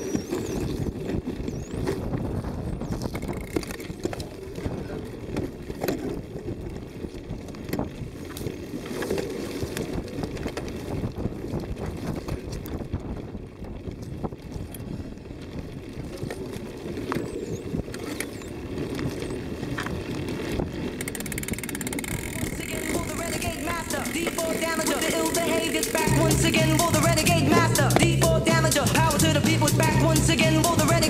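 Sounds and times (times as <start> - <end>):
wind buffeting microphone: 0.0 - 29.2.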